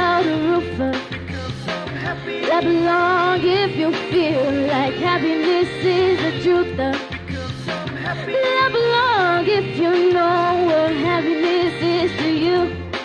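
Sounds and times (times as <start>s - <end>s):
backing track with bass line: 0.0s - 13.0s
girl singing pop song: 0.0s - 13.0s.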